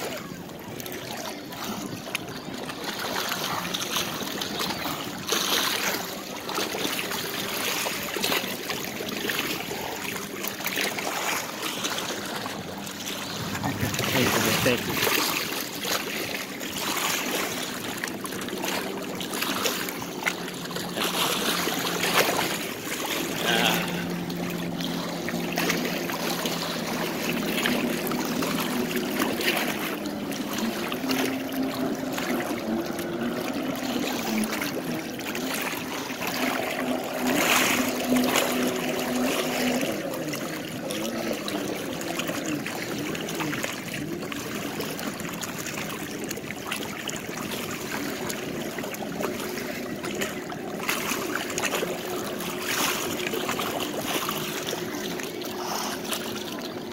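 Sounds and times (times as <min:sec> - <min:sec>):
motorboat engine drone: 0:00.0 - 0:56.9
waves lapping against a boat: 0:00.0 - 0:56.9.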